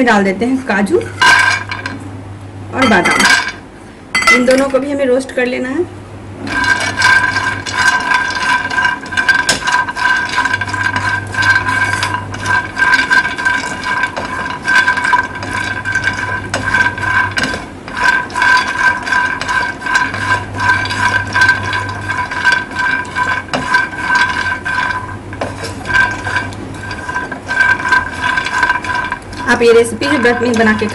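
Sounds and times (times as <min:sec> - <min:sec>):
nuts clattering in frying pan: 0:01.2 - 0:02.0, 0:02.8 - 0:03.6, 0:06.5 - 0:30.9.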